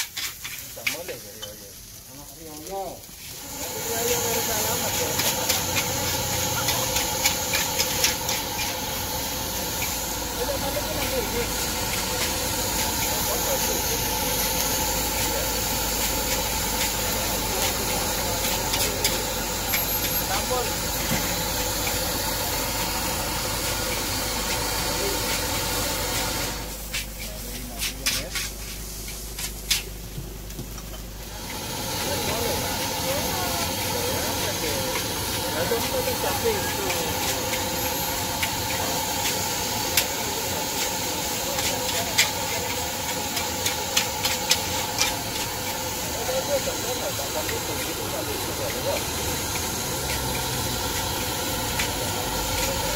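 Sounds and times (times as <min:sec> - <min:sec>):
gas burner hiss and frying: 0:00.0 - 0:52.9
rice sizzling in a wok: 0:00.0 - 0:52.9.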